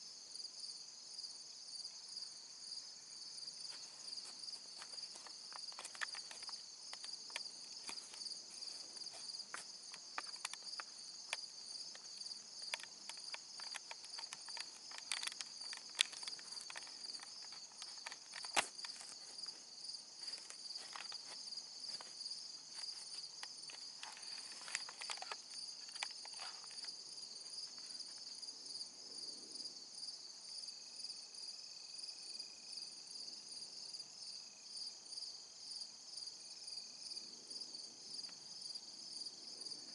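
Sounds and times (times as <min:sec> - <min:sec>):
insects chorus pulsing: 0:00.0 - 0:39.9.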